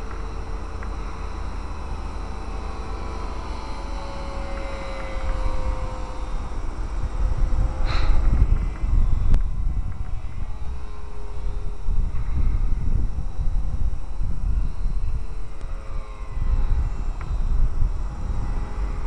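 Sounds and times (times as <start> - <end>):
model plane motor whining: 0.0 - 19.0
wind rumble on microphone: 0.0 - 19.0.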